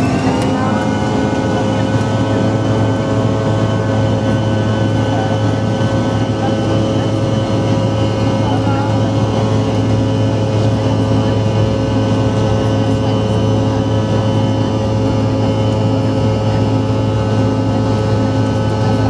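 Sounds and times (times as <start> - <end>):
engine whining tones: 0.0 - 19.0
jet cabin engine drone: 0.0 - 19.0.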